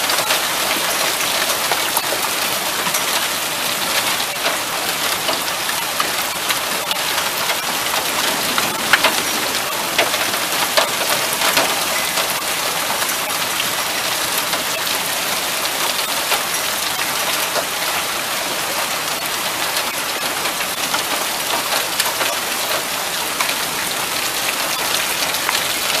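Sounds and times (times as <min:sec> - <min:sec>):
hail and rain on a car: 0:00.0 - 0:26.0.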